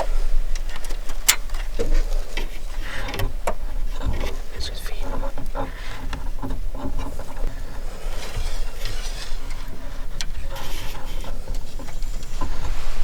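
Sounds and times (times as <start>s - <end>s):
light clicks and rustles: 0.0s - 13.0s.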